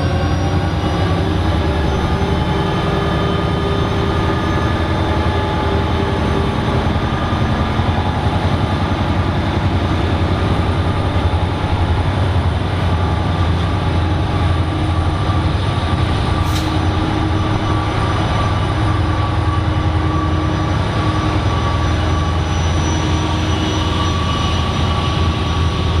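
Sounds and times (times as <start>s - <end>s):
locomotive diesel engine drone: 0.0s - 26.0s
turbocharger whine: 0.0s - 26.0s.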